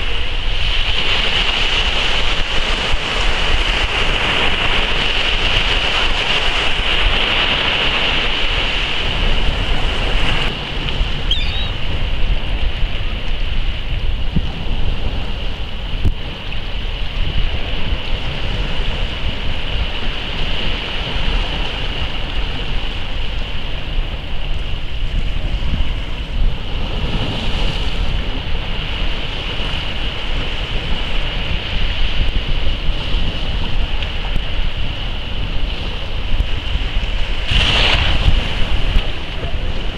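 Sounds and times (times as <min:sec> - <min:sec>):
waves splashing against rocks: 0:00.0 - 0:39.9
wind rumbling on microphone: 0:00.0 - 0:39.9.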